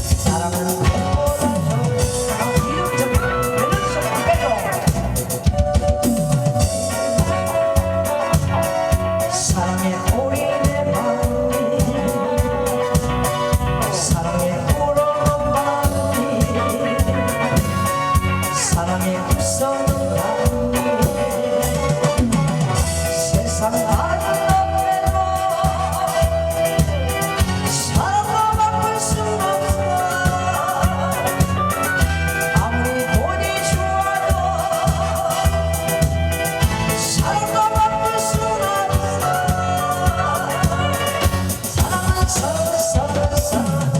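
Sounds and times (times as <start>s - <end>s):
backing track with drum beat: 0.0s - 43.9s
person singing: 0.0s - 43.9s.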